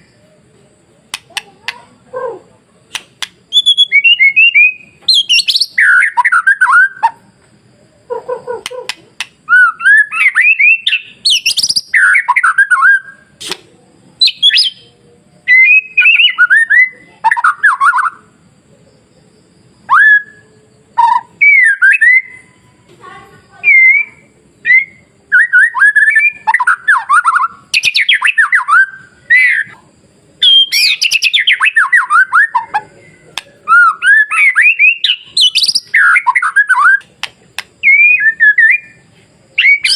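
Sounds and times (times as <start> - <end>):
songbird whistling phrases: 1.1 - 7.3, 8.0 - 13.6, 14.2 - 18.3, 19.8 - 22.8, 23.5 - 29.8, 30.4 - 39.9.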